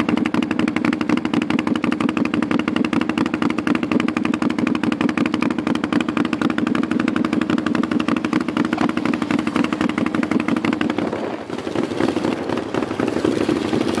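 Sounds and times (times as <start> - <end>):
quad bike engine running: 0.0 - 14.0.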